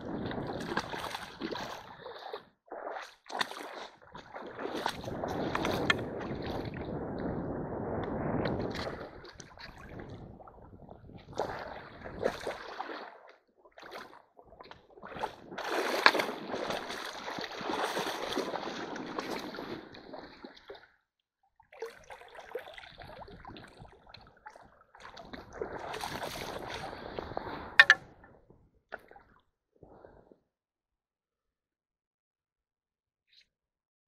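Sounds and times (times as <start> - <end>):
water splashing in a stream: 0.0 - 28.1.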